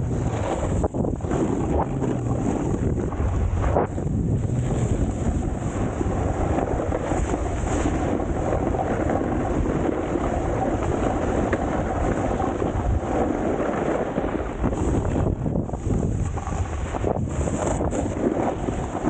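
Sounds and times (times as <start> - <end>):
snowboard scraping icy snow: 0.0 - 19.0
wind buffeting microphone: 0.0 - 19.0.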